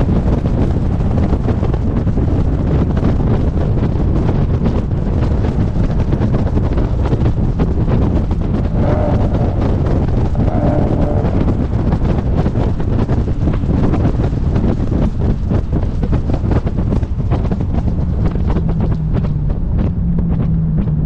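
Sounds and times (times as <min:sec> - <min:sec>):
moving car rumble: 0:00.0 - 0:21.0
wind buffeting microphone: 0:00.0 - 0:21.0.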